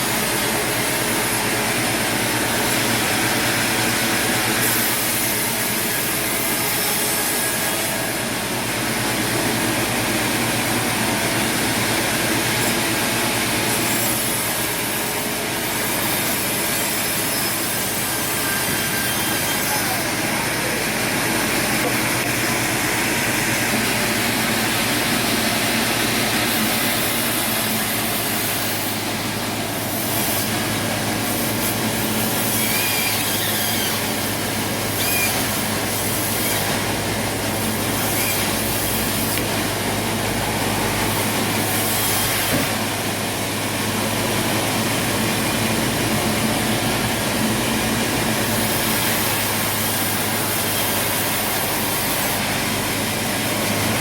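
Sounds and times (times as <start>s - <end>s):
sawmill machinery hum: 0.0s - 54.0s.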